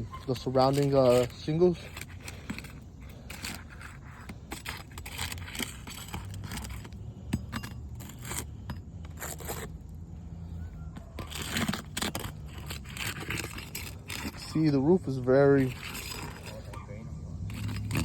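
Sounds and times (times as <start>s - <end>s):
tool scraping under shingles: 0.0s - 18.0s.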